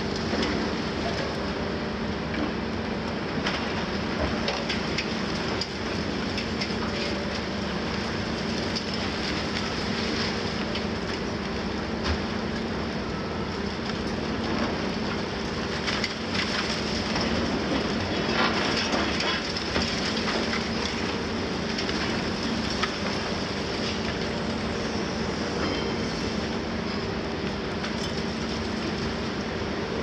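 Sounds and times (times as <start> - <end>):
excavator diesel engines running: 0.0 - 30.0.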